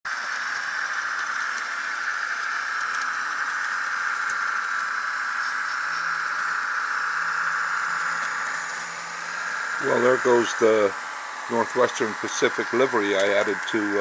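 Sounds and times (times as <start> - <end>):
model train whirring: 0.1 - 14.0.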